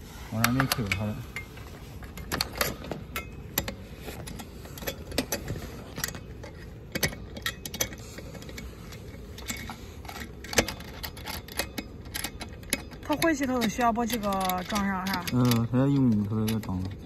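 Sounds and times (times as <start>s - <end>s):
low steady rumble: 0.0s - 17.0s
metallic clicks and clinks: 2.1s - 17.0s.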